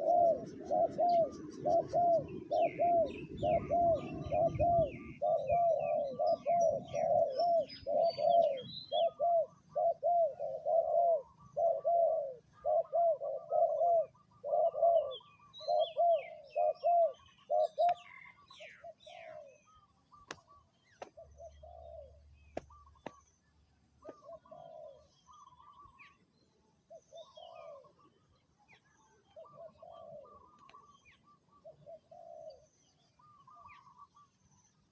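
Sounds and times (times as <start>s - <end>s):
dove cooing: 0.0s - 23.2s, 24.0s - 26.2s, 26.8s - 34.9s
small birds chirping: 0.0s - 34.9s.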